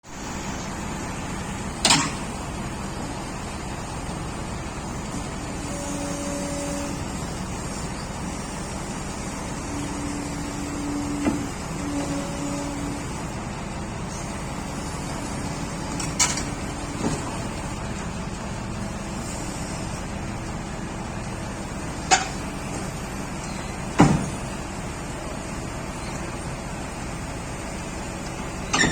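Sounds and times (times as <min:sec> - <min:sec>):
diesel engine running: 0:00.1 - 0:28.9
hydraulic whine: 0:04.2 - 0:24.7, 0:25.8 - 0:28.9.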